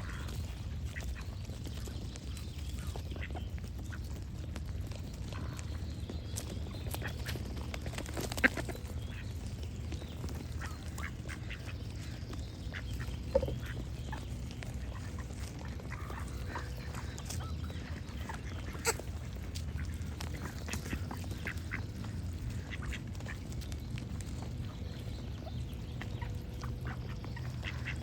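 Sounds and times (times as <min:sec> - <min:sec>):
ducks quacking: 0:00.0 - 0:04.3, 0:05.2 - 0:28.0
low background noise: 0:00.0 - 0:28.0
small birds singing: 0:00.0 - 0:28.0.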